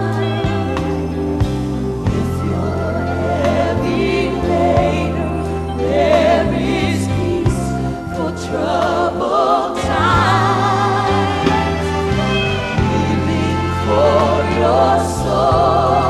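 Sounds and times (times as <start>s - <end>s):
choir singing: 0.0s - 16.0s
gospel band with bass: 0.0s - 16.0s
voices singing with vibrato: 0.0s - 16.0s.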